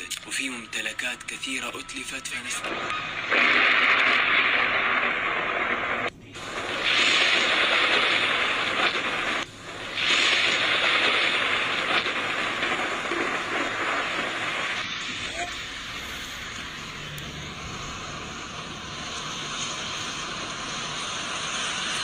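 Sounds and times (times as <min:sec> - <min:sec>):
wind: 0:00.0 - 0:22.0
heavy rain: 0:02.2 - 0:22.0.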